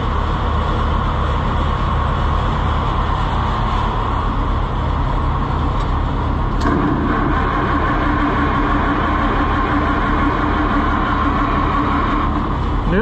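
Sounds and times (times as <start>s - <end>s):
higher steady drone: 0.0s - 13.0s
tractor engines running: 0.0s - 13.0s.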